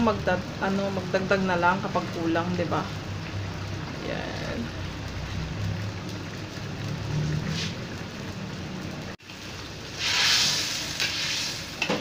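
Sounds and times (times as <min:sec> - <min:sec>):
sizzling burst: 0:00.0 - 0:11.9
curry bubbling and hissing: 0:00.0 - 0:12.0.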